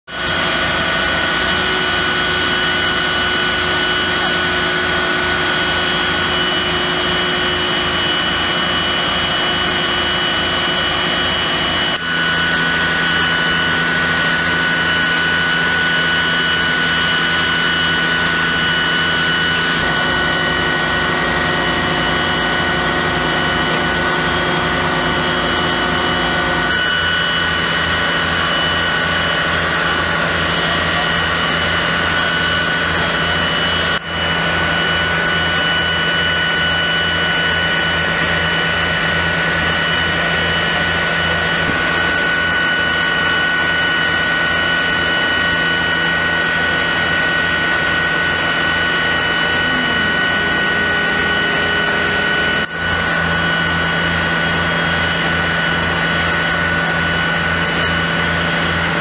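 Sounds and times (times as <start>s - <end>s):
steady high whine: 0.1s - 59.0s
truck engine drone: 0.1s - 59.0s.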